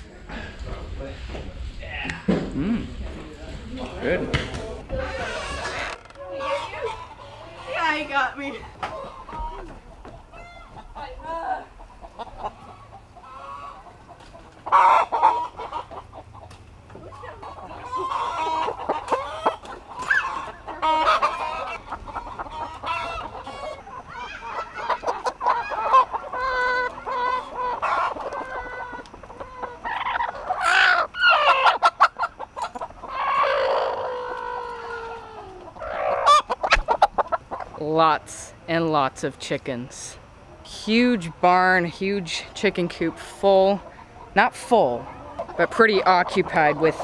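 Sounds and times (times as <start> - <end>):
hens clucking and calling: 3.8 - 47.0.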